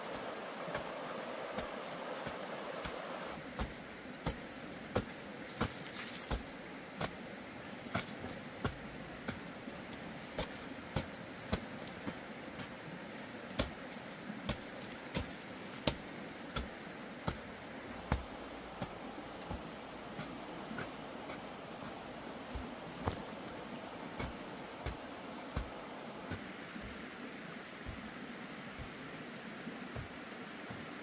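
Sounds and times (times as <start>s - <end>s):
hoe chopping into dry soil: 0.0s - 7.2s, 7.8s - 12.8s, 13.5s - 29.2s, 29.9s - 31.0s.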